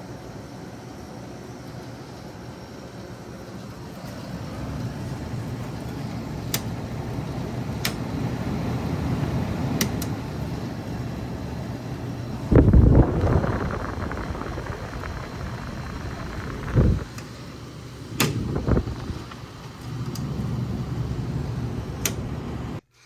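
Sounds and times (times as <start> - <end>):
air conditioner humming: 0.0 - 22.8.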